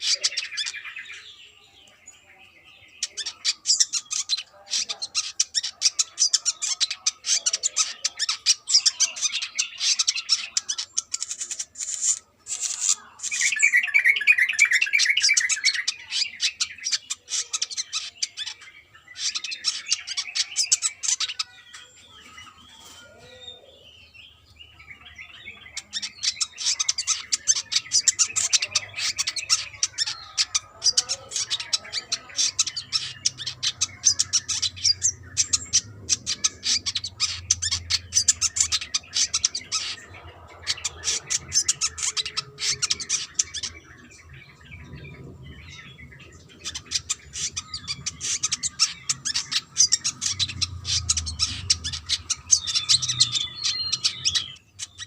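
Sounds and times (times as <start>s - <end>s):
sunbird singing: 0.0s - 55.0s.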